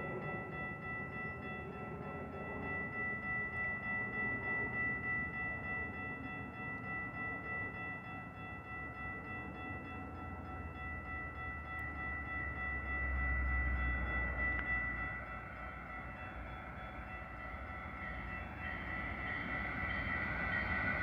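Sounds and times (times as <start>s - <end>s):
railroad crossing bells ringing: 0.0s - 21.0s
train rumble: 0.0s - 21.0s.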